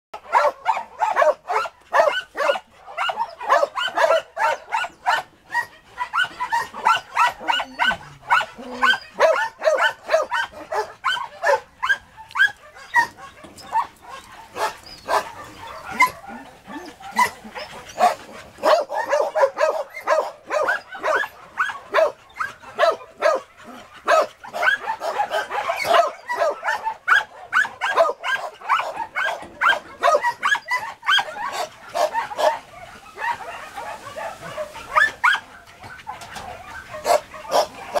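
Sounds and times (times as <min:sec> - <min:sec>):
dog barking and yelping: 0:00.2 - 0:38.0.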